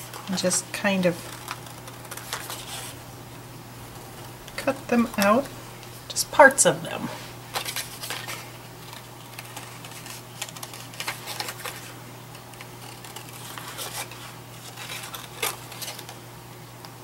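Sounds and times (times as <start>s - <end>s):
low steady hum: 0.0s - 16.6s.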